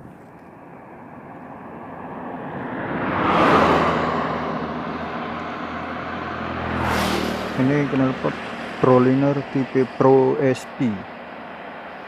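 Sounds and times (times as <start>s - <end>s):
vehicle passing by: 0.8s - 12.0s.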